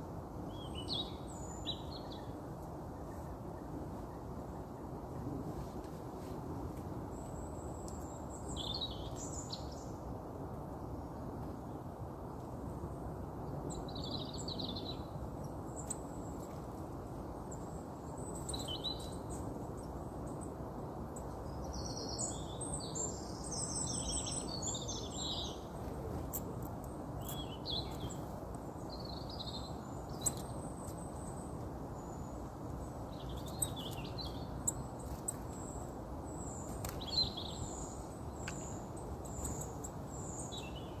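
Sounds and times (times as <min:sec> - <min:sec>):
birds chirping and twittering: 0:00.4 - 0:05.3, 0:07.0 - 0:10.0, 0:13.5 - 0:41.0.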